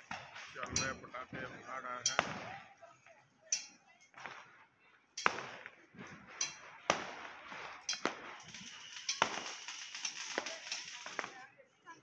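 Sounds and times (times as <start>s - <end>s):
firecrackers bursting: 0.0s - 2.7s, 3.6s - 4.6s, 5.2s - 11.6s.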